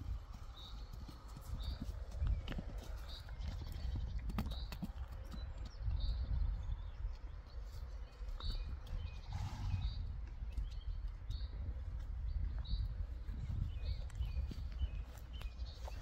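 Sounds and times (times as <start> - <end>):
hooves stepping on dirt: 0.0 - 16.0.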